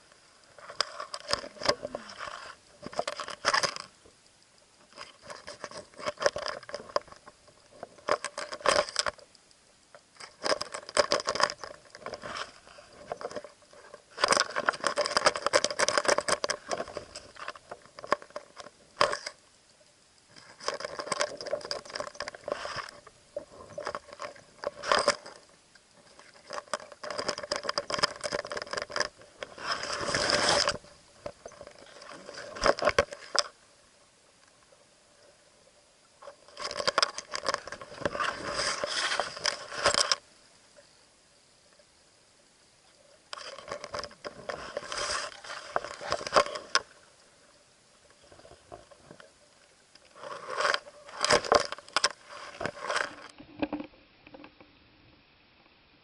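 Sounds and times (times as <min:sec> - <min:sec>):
underwater crackling and scraping: 0:00.0 - 0:41.0, 0:42.9 - 0:54.8.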